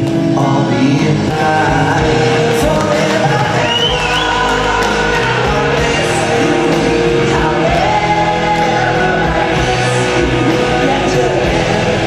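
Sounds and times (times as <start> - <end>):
music with singing voice: 0.0 - 12.0.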